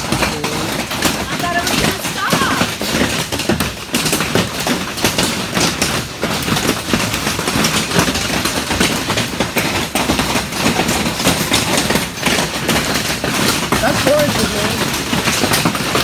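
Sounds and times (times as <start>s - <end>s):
hail and rain on metal roof: 0.0s - 16.0s.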